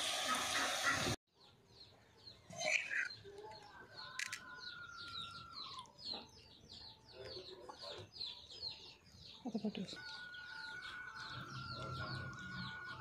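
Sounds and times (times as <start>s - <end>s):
small birds chirping: 0.9s - 13.0s.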